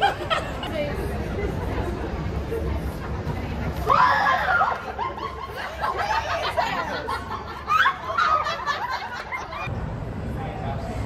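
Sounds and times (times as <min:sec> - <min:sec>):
people laughing: 0:00.0 - 0:09.7.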